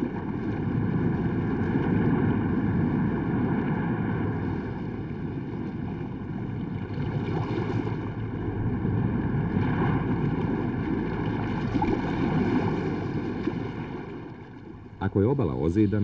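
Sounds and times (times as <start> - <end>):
waves breaking on rocks: 0.0 - 14.8.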